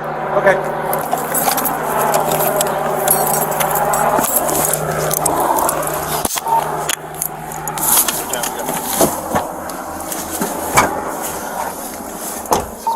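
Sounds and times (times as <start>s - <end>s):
helicopter cabin noise: 0.0s - 12.9s
muffled voices: 0.2s - 12.9s.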